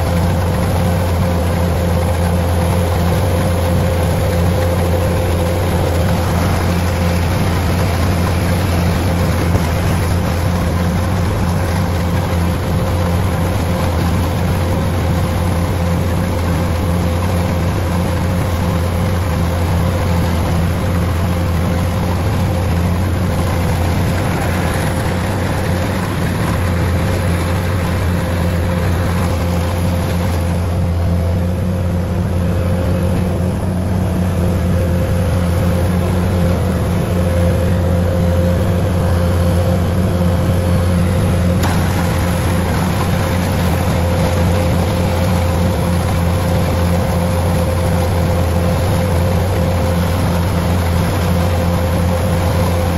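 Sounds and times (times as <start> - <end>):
combine harvester diesel engine: 0.0 - 52.9.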